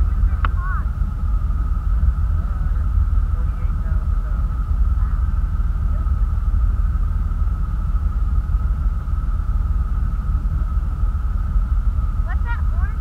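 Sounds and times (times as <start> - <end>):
boat engine whining: 0.0 - 13.0.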